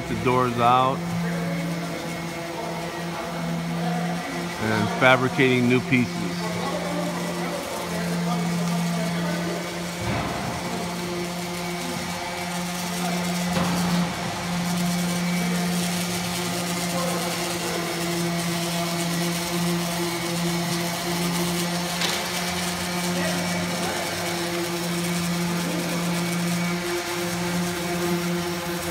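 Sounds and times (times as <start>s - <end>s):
electric motor humming: 0.0s - 28.9s.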